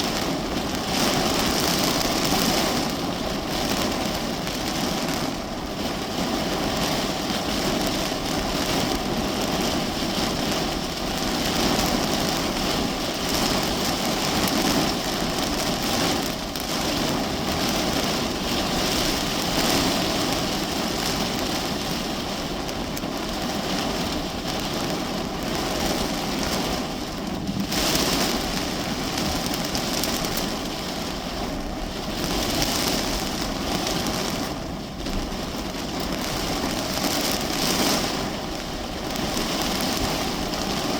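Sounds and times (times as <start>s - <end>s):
heavy rain drumming on car: 0.0s - 40.9s.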